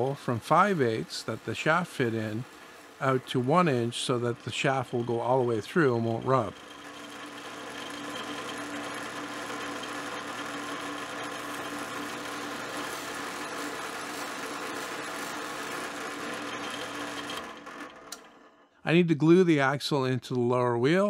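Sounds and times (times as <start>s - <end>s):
drill press cutting wood: 0.0s - 18.6s.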